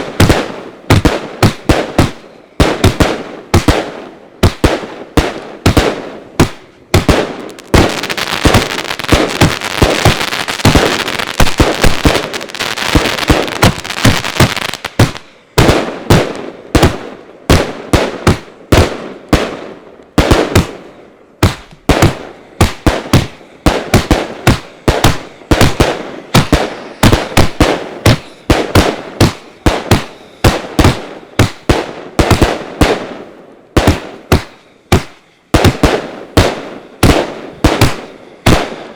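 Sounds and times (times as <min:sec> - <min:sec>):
fireworks cake firing: 0:00.0 - 0:19.5, 0:20.2 - 0:38.9.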